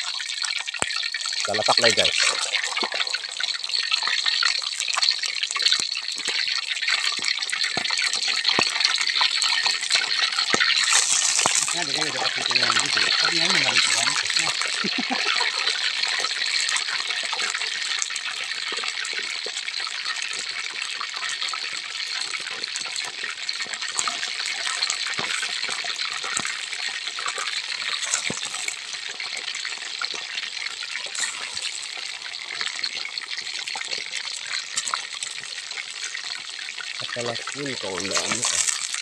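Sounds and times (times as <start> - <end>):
deep-frying sizzle with pops: 0.0 - 39.0.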